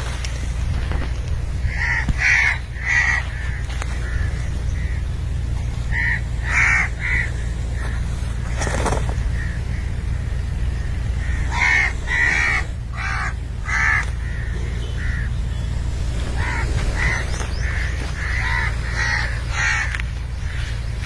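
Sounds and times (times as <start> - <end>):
bird calling: 0.0 - 21.0
steady low rumble: 0.0 - 21.0.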